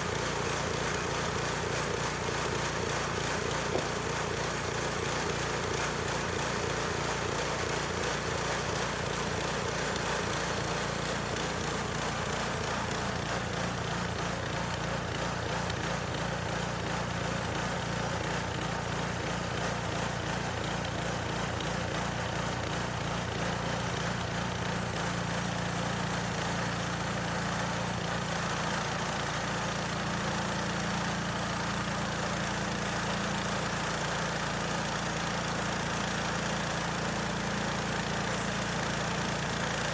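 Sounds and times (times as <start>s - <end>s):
sawmill petrol engine running: 0.0s - 39.9s.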